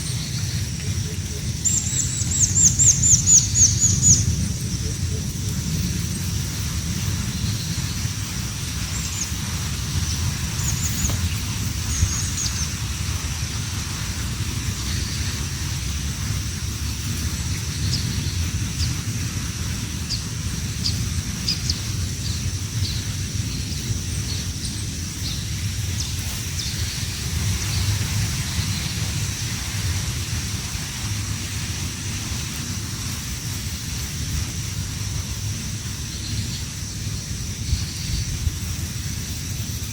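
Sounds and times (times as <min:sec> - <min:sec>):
constant high hiss: 0:00.0 - 0:39.9
wind rumble on microphone: 0:00.0 - 0:39.9.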